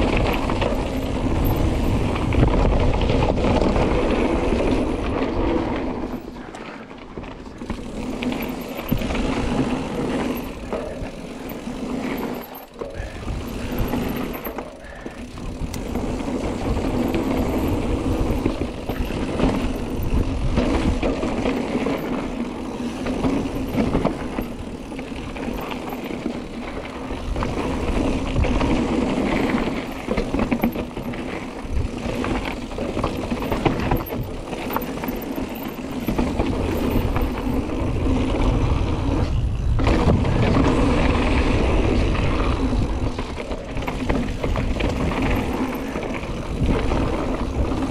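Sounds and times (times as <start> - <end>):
bike rattling and knocking: 0.0 - 47.9
bike tyres rolling and skidding on dirt: 0.0 - 47.9.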